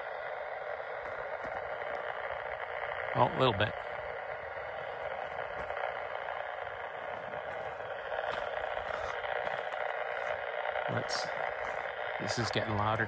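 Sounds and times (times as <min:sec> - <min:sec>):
faint electrical interference: 0:00.0 - 0:13.0
radio static hiss: 0:00.0 - 0:13.0.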